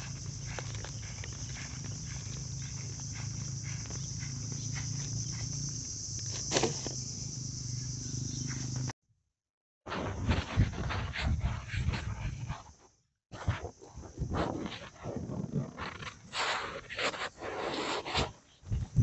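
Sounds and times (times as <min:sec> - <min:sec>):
insects chirping: 0:00.0 - 0:08.9, 0:10.1 - 0:19.0.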